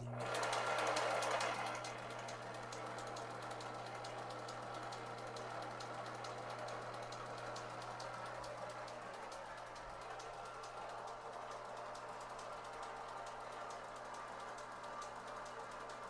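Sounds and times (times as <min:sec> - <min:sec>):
belt drive humming: 0:00.0 - 0:16.0
belts ticking over pulleys: 0:00.0 - 0:16.0.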